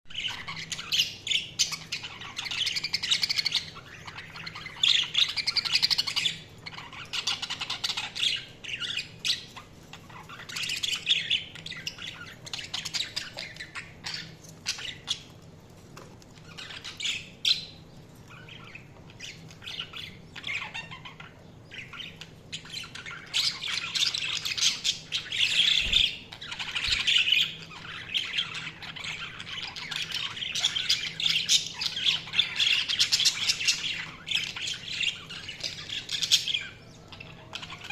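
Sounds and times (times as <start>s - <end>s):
budgies chirping and warbling: 0.1s - 37.9s.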